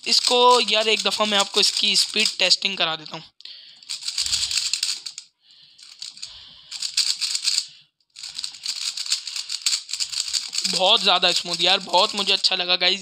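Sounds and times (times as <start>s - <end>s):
speed cube layers clicking: 0.0s - 2.5s, 3.8s - 5.2s, 5.9s - 12.6s.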